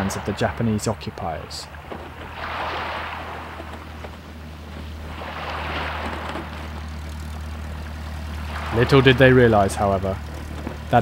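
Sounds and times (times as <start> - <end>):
rushing water and waves: 0.0 - 11.0
steady low hum: 0.0 - 11.0.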